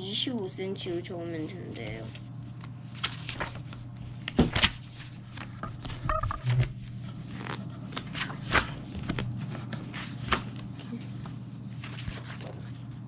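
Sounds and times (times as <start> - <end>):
steady low hum: 0.0 - 13.0
paper pages rustling: 2.0 - 13.0.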